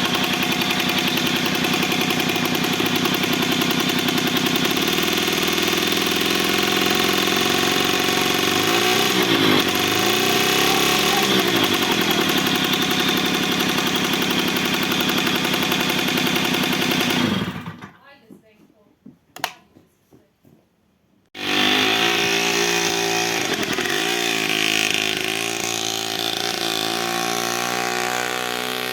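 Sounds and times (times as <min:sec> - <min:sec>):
moped engine idling and revving: 0:00.0 - 0:18.0, 0:21.4 - 0:28.9.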